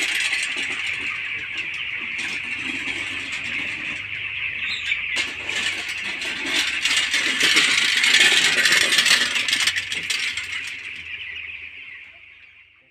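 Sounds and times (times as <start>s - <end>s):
metal rake scraping through litter: 0.0s - 11.0s.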